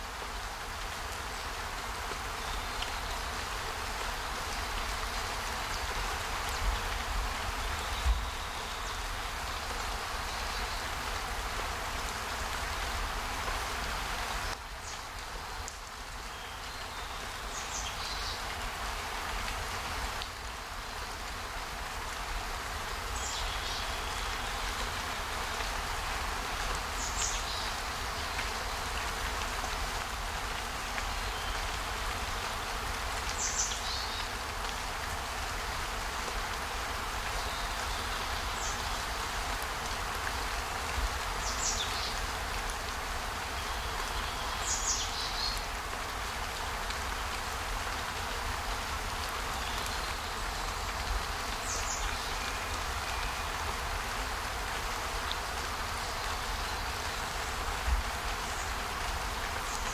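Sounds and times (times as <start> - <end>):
rain-like hiss: 0.0 - 59.9.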